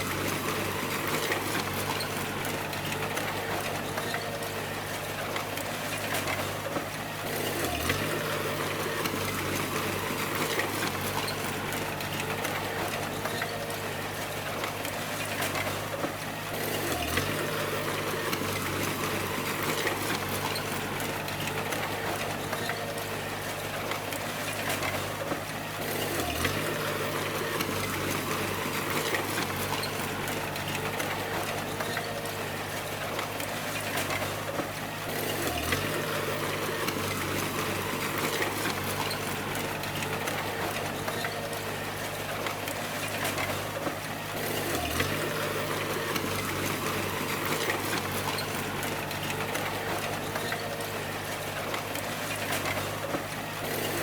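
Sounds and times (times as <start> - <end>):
bulldozer diesel engine clattering: 0.0 - 54.0.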